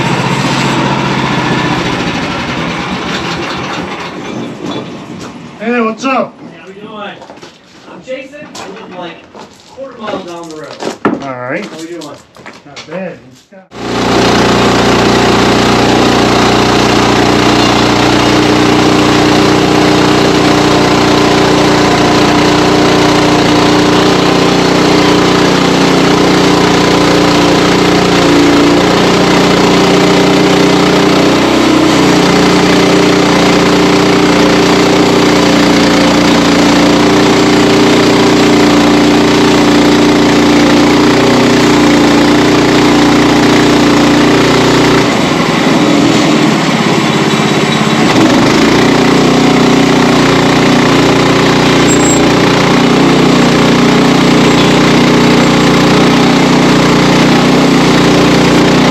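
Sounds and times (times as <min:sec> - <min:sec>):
saw cutting log: 0:00.0 - 0:03.9, 0:13.7 - 0:58.9
sawmill engine running: 0:00.0 - 0:09.2, 0:13.7 - 0:58.9.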